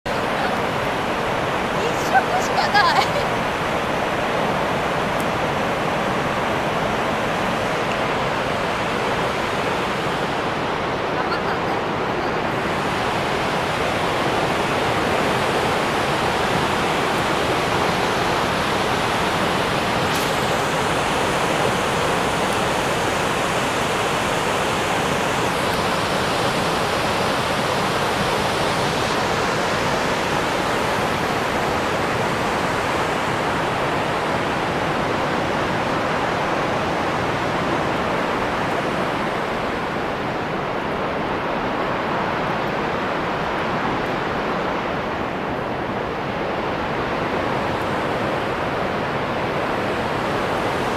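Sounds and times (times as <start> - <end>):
waterfall rushing: 0.1 - 50.9.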